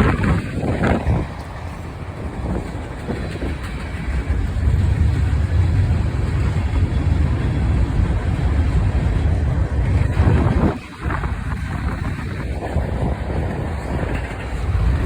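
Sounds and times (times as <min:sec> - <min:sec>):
freight train rumbling past: 0:00.0 - 0:15.0
wind buffeting microphone: 0:00.0 - 0:15.0.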